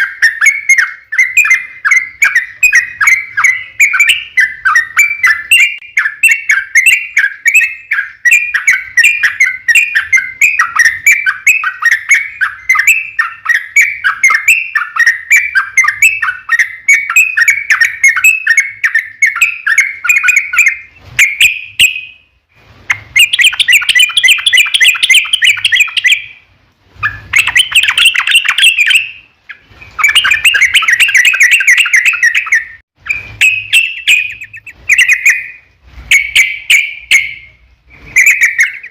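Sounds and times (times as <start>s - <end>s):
bird singing rapid chattering song: 0.0s - 22.2s, 22.9s - 26.4s, 27.0s - 38.9s.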